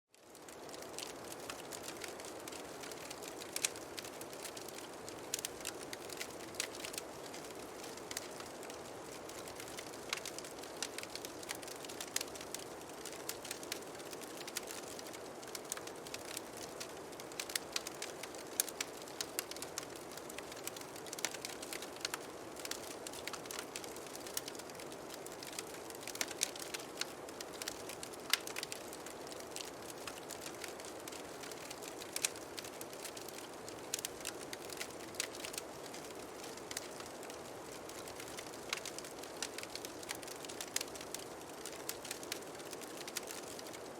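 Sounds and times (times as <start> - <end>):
fireplace crackling and popping: 0.1 - 43.9
soft fire hiss: 0.1 - 43.9.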